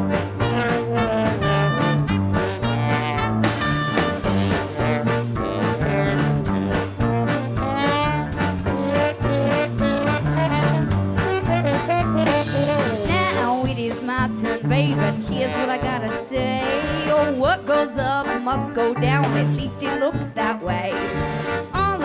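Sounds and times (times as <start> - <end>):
steady rhythm section: 0.0 - 22.0
swing band brass melody: 0.0 - 22.0
walking bass line: 0.0 - 22.0.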